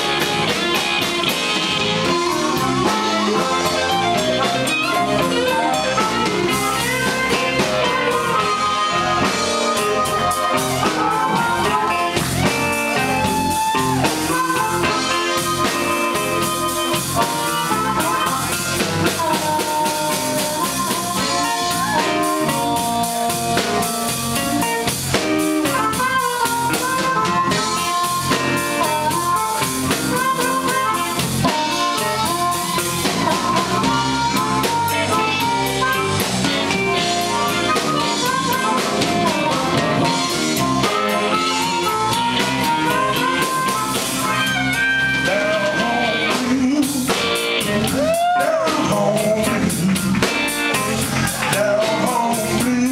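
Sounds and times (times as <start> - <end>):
harmonica bent notes: 0.0 - 49.3
blues band playing: 0.0 - 52.9.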